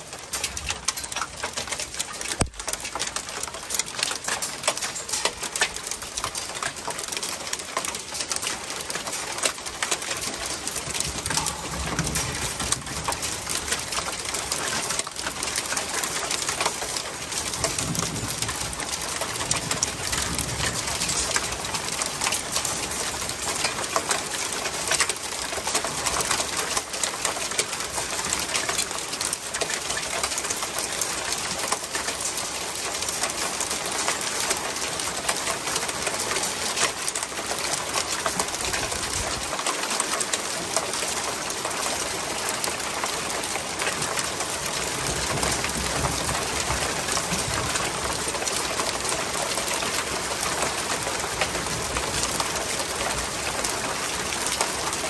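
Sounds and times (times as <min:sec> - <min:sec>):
hail and rain on wooden deck: 0:00.0 - 0:55.0.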